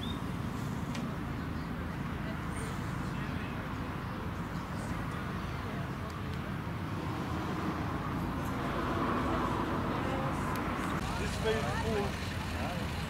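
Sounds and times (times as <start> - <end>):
distant faint voices: 0.0 - 13.0.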